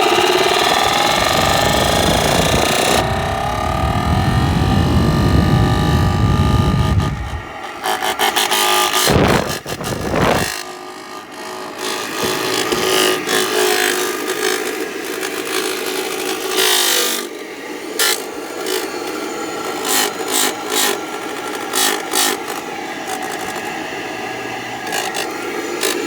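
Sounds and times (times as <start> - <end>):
sharp motor clicks: 0.0 - 17.3, 17.9 - 26.0
blower motor humming and scraping: 0.0 - 26.0.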